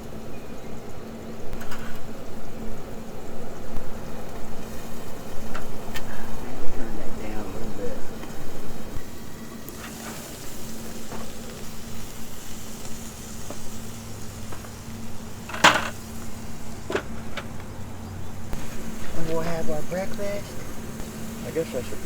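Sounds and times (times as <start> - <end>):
sausage sizzling in a pan: 0.0 - 22.0.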